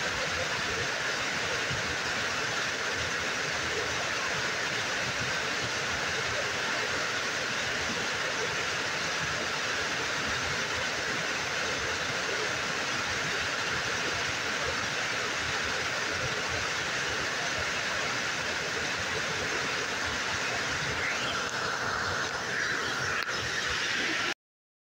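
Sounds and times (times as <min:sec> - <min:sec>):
small waterfall rushing: 0:00.0 - 0:24.4.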